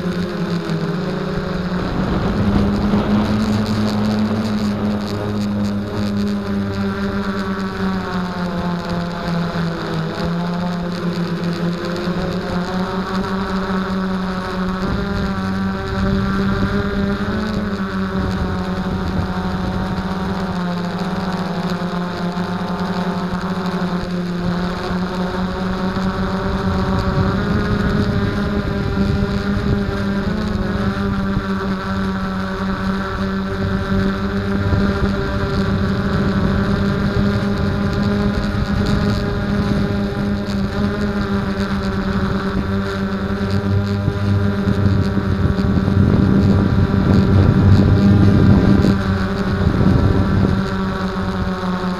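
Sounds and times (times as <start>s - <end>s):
drone motors and propellers whining: 0.0s - 51.9s.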